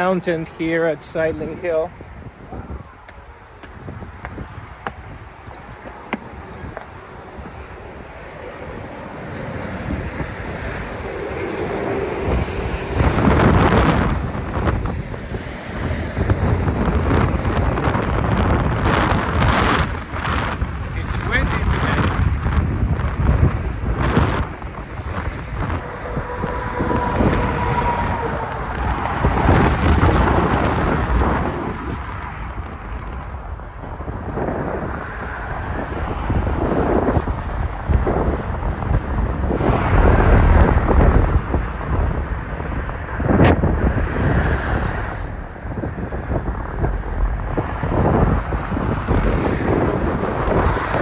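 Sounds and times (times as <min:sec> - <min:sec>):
road traffic: 0:00.0 - 0:51.0
wind gusting over microphone: 0:00.0 - 0:51.0.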